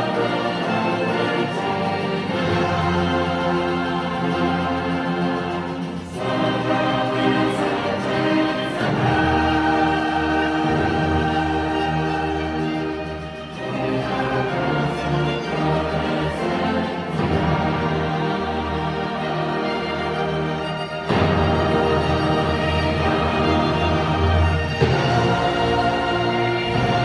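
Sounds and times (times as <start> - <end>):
choir singing with orchestra: 0.0 - 27.0.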